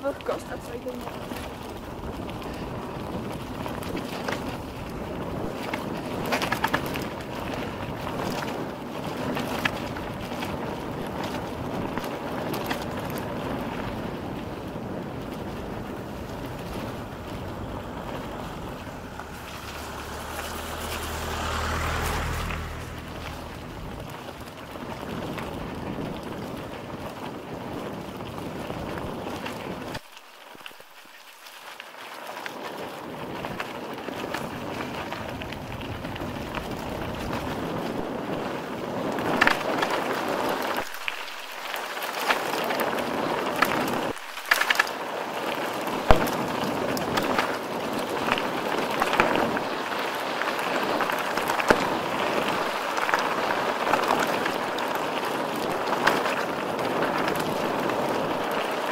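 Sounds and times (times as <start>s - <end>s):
wind on microphone: 0.0s - 30.0s, 32.3s - 58.9s
bike tyres on rough ground: 0.0s - 58.9s.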